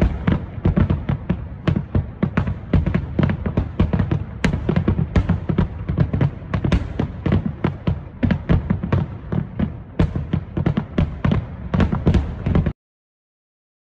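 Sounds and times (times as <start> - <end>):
fireworks bangs and crackles: 0.0 - 12.8.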